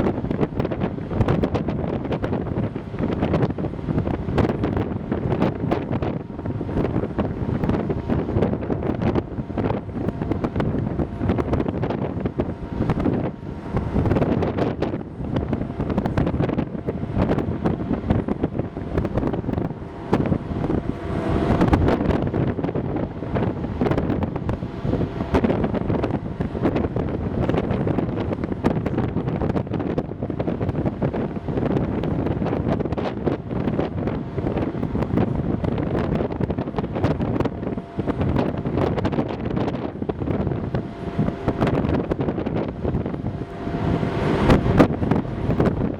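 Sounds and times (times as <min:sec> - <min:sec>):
low rumble: 0:00.0 - 0:45.9
wind buffeting microphone: 0:00.0 - 0:45.9.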